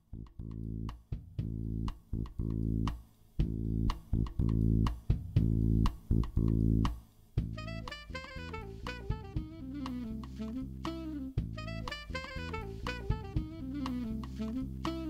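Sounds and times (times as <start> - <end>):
bass-heavy riff: 0.1 - 15.0.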